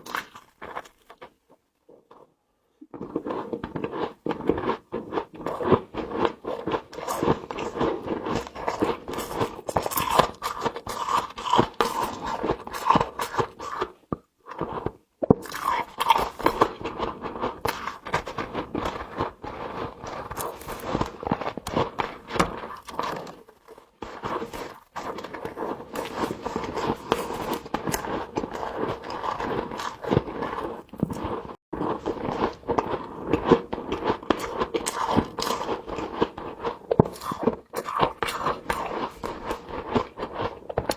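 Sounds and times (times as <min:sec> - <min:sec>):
crunching and chewing frost: 0:00.0 - 0:40.9.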